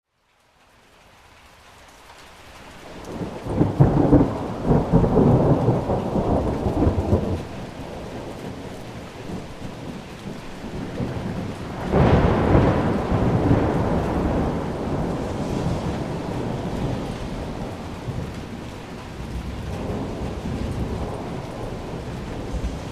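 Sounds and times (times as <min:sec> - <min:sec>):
steady rain: 0:00.0 - 0:22.9
thunder rumbling: 0:02.9 - 0:22.9.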